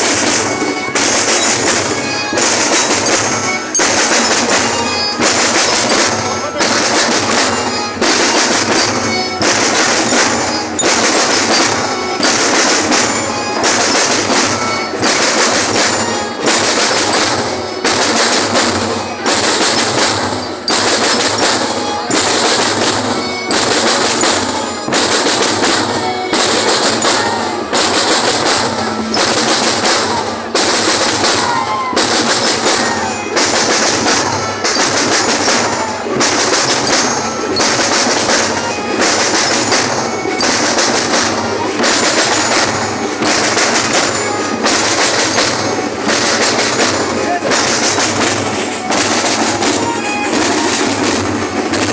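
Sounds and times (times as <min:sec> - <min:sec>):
marching band drumming: 0:00.0 - 0:51.9.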